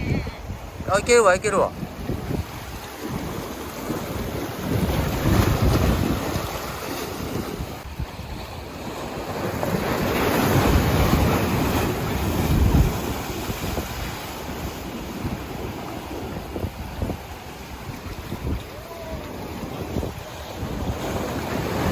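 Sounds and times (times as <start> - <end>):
ocean surf breaking: 0.0 - 21.9
wind buffeting microphone: 0.0 - 21.9.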